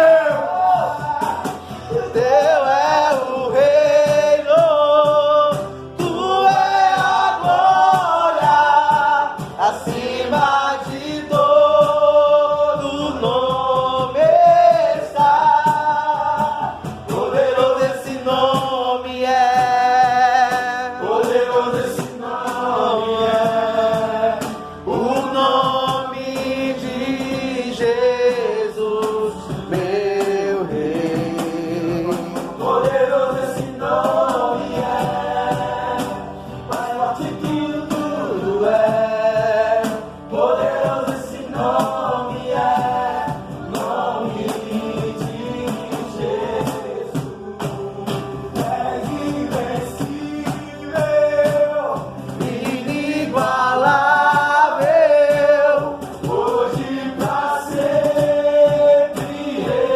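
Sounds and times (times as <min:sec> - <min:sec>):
voices singing gospel: 0:00.0 - 0:59.9.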